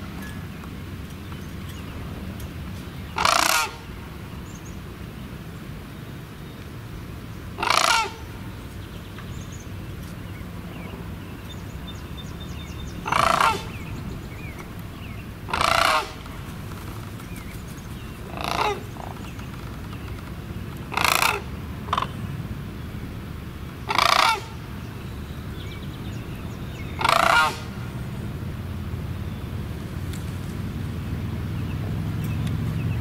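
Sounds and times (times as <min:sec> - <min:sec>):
crane calling: 0:00.0 - 0:05.0, 0:07.5 - 0:33.0.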